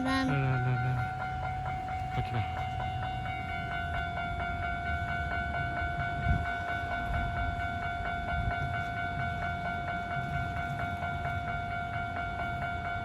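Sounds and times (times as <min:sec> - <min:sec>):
level-crossing warning bell ringing: 0:00.0 - 0:13.0.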